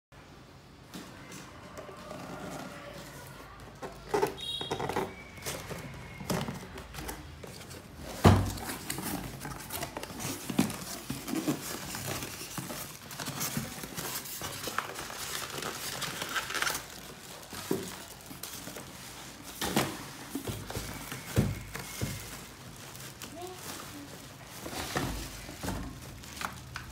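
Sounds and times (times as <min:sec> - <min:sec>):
plastic wrapping crinkling: 0:01.2 - 0:26.9
cardboard box being handled: 0:03.7 - 0:26.8.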